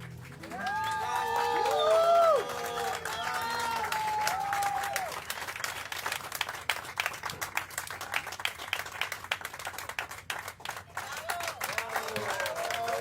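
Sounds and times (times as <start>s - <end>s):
people clapping: 0.0s - 13.0s.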